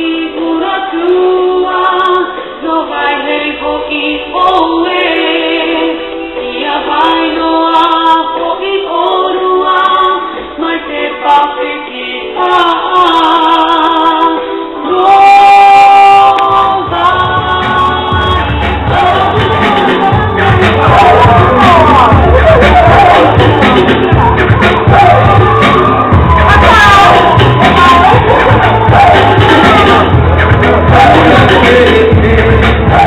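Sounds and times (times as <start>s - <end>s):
song with sung vocals: 0.0s - 33.0s.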